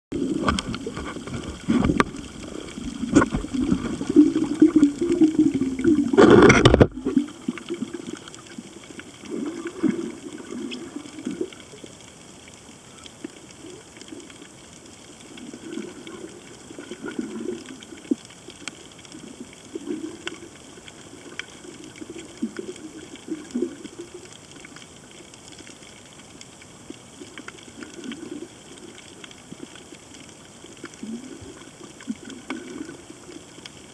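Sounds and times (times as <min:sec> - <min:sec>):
underwater gurgling swells: 0:00.1 - 0:33.9
underwater rumbling and gushing: 0:00.1 - 0:33.9
faint underwater clicks: 0:00.2 - 0:33.9.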